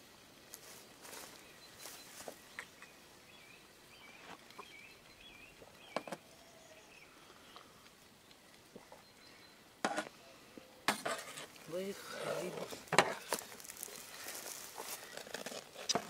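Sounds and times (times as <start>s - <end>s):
small bird singing faintly: 0.7s - 10.9s, 11.6s - 16.0s.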